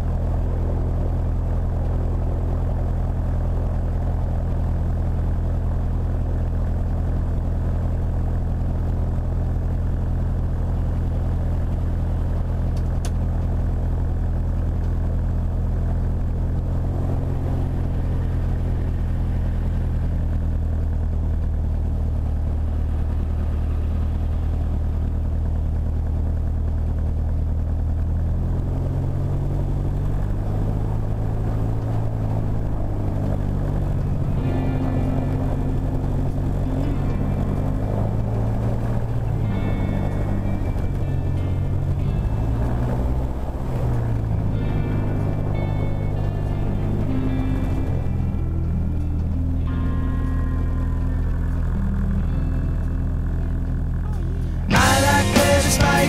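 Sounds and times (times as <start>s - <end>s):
propeller plane engine idling: 0.0s - 56.0s.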